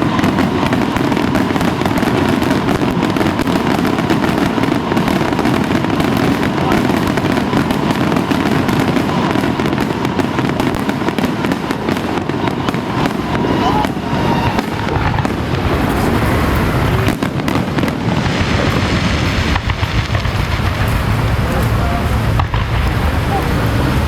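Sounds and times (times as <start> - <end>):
firecrackers crackling: 0.0 - 24.0.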